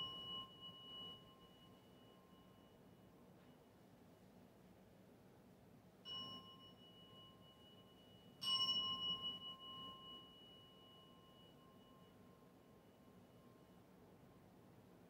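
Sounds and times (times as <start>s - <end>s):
bowl bell ringing: 0.0s - 3.7s, 6.1s - 14.6s.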